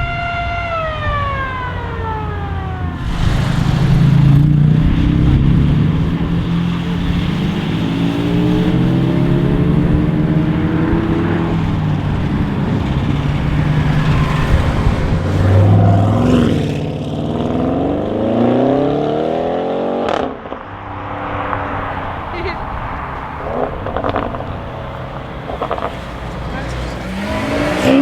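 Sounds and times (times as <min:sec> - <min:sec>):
exhaust crack: 0:00.7 - 0:28.0
car engine accelerating: 0:01.5 - 0:28.0.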